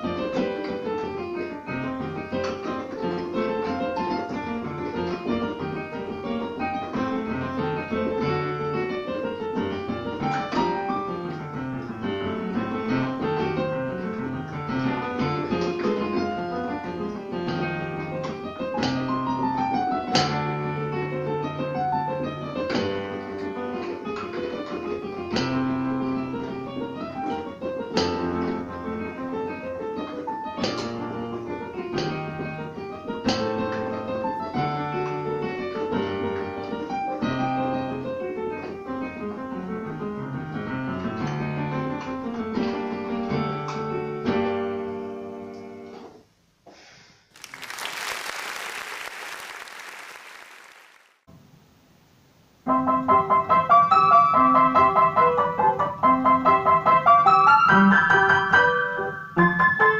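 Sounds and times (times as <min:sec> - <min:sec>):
digital piano solo: 0:00.0 - 0:45.9, 0:52.7 - 0:59.9.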